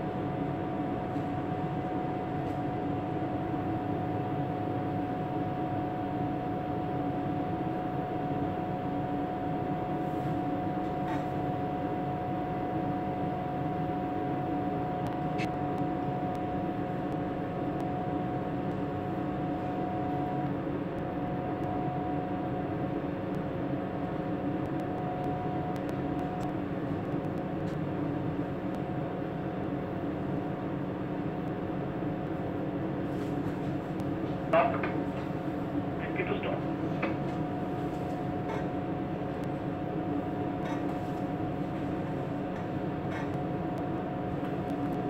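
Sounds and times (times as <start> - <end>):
steady mechanical drone: 0.0 - 45.0.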